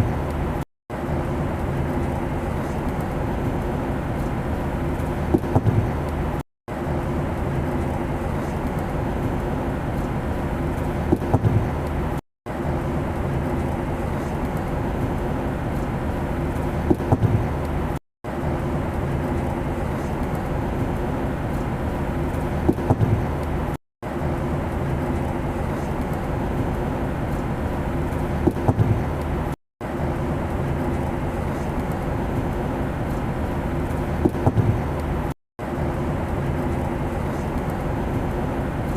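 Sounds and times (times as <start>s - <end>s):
airplane drone: 0.0s - 38.9s.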